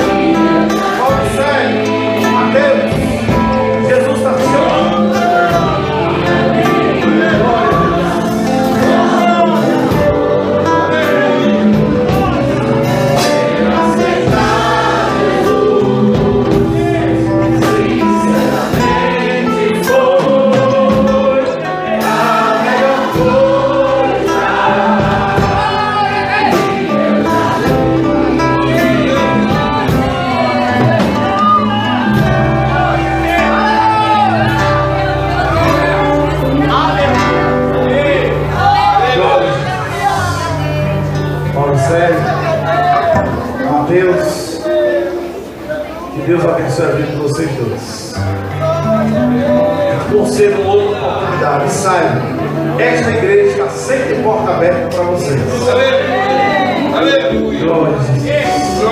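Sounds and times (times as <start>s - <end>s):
instrumental accompaniment: 0.0s - 58.9s
voices singing together: 0.0s - 58.9s.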